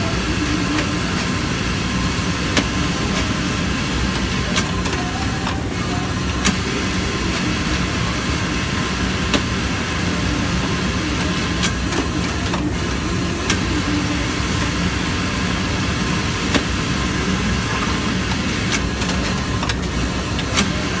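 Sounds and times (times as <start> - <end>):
sewing machine humming: 0.0 - 21.0.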